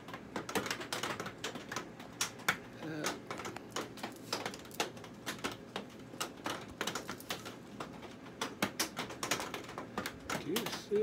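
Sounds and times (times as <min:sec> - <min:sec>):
raindrops tapping on greenhouse: 0:00.0 - 0:11.0.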